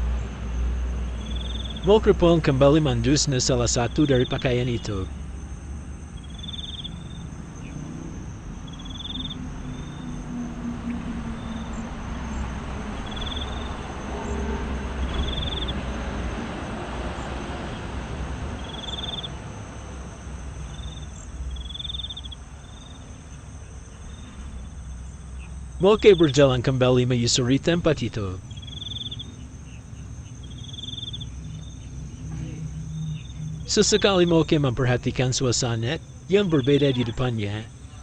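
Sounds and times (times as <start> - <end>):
crickets chirping: 0.0 - 38.0
steady low rumble: 0.0 - 38.0.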